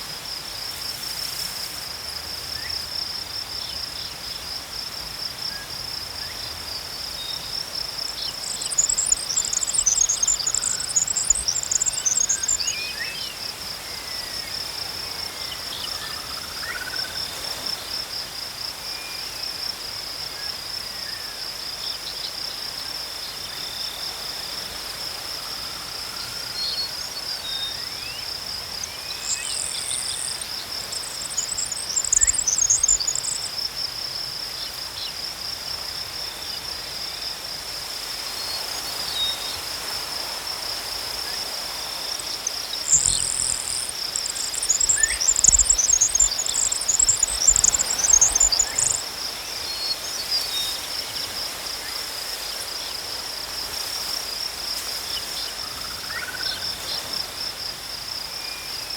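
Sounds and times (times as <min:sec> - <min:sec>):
crickets trilling: 0:00.0 - 0:58.9.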